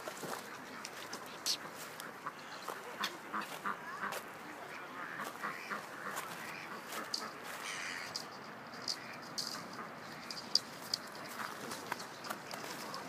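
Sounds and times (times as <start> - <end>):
ducks quacking: 0.3 - 13.0.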